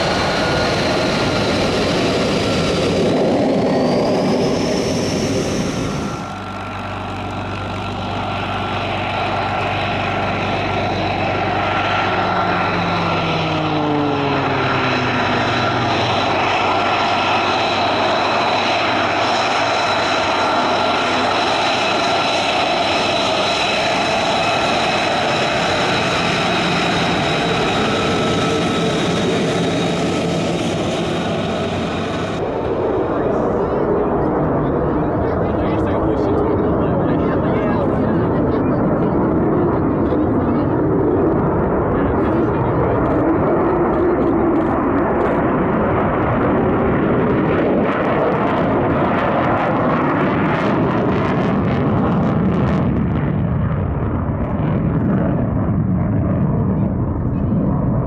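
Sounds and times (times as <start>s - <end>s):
jet engine roar with high whine: 0.0s - 58.0s.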